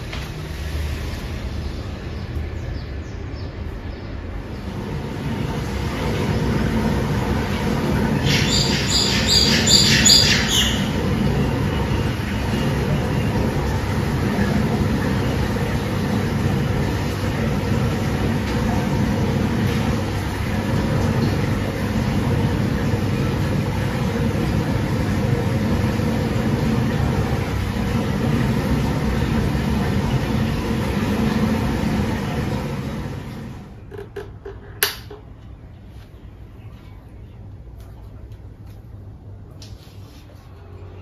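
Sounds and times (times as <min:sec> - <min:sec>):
city traffic drone: 0:00.0 - 0:41.0.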